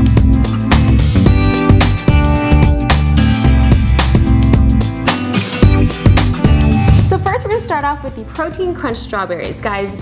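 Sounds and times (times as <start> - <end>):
instrumental music with beat and bass: 0.0 - 8.3.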